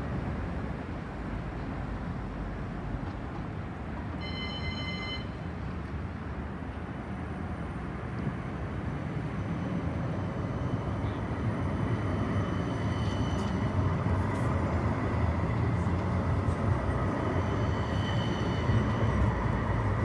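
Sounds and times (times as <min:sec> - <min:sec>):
tram rumbling past: 0:00.0 - 0:20.0.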